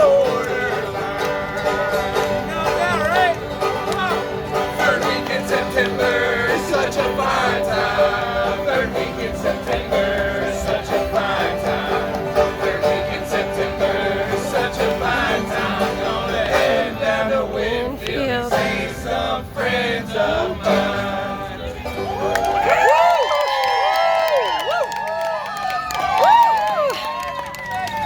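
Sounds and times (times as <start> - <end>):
bluegrass string band playing: 0.0 - 23.1.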